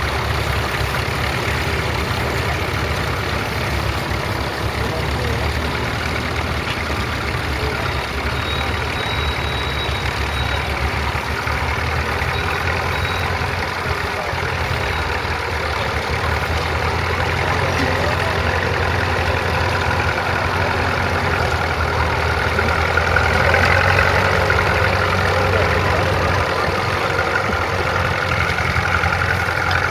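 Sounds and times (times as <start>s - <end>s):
crawler tractor engine running: 0.0s - 29.9s.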